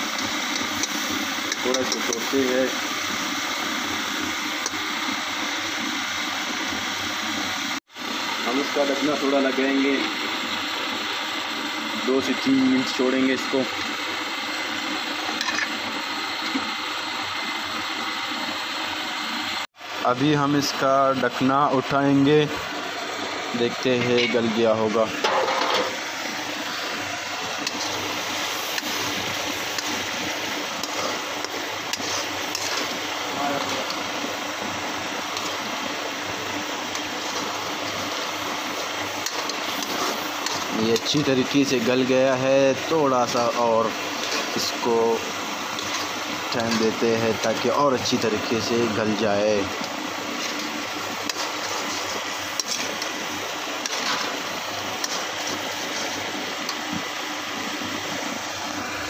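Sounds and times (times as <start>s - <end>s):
food sizzling and bubbling: 0.0s - 59.0s.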